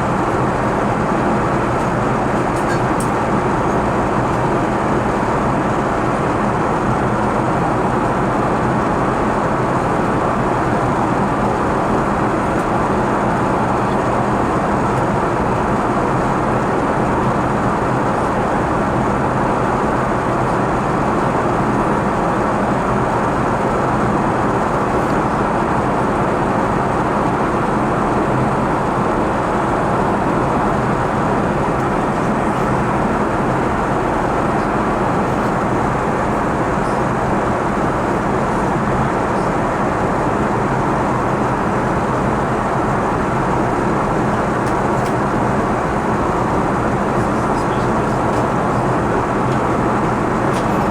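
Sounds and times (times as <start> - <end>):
airplane cabin engine and airflow rush: 0.0 - 50.9.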